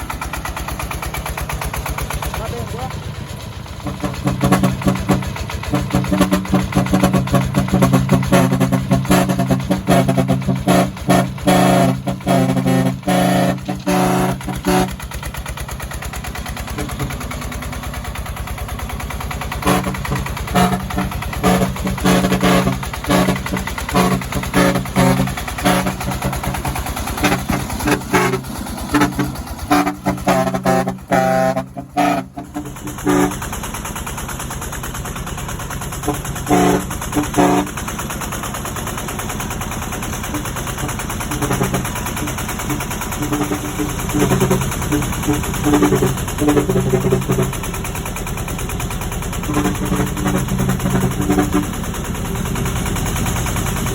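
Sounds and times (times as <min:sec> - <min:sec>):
diesel engine chugging: 0:00.0 - 0:53.9
truck horn toots: 0:03.8 - 0:34.0, 0:35.9 - 0:38.5, 0:40.1 - 0:53.9.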